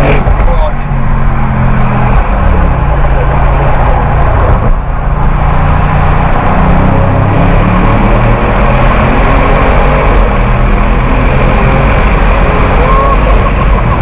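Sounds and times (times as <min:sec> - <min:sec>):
car engine running: 0:00.0 - 0:14.0
road noise: 0:00.0 - 0:14.0.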